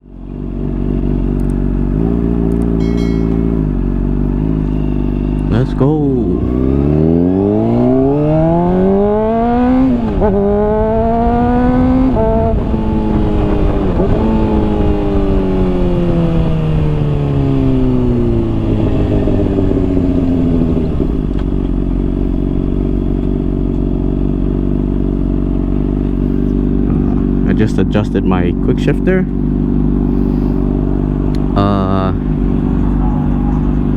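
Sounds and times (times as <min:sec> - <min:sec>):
motorcycle accelerating and upshifting: 0:00.0 - 0:33.9.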